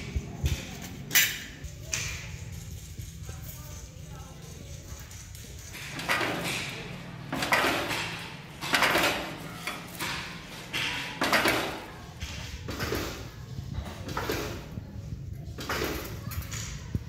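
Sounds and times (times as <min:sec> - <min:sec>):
metal clatter: 0:00.0 - 0:17.0.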